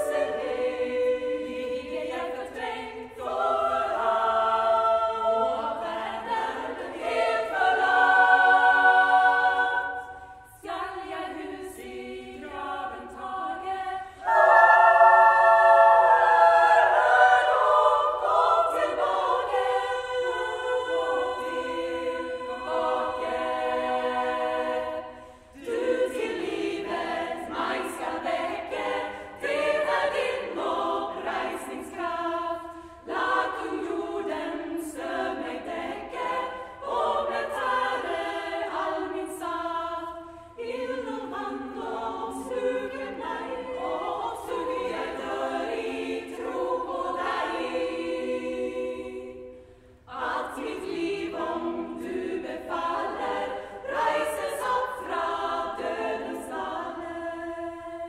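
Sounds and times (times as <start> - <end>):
women's choir singing a cappella: 0.0 - 58.0.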